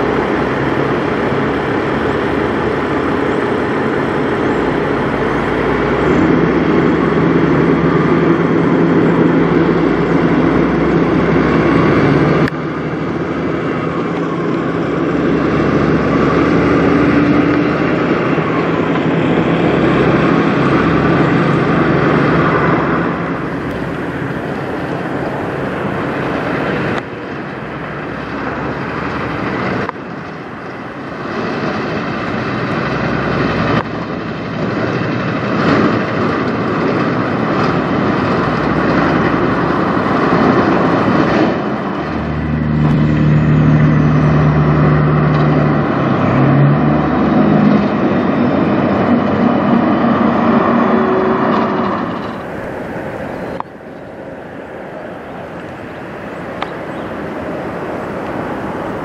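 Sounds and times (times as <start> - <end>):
diesel trucks driving past: 0.0 - 59.0
tyre and road noise: 0.0 - 59.0.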